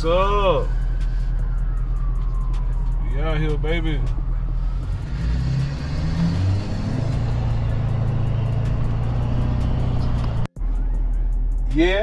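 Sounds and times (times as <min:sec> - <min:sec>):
vehicle engine running: 0:00.7 - 0:11.7.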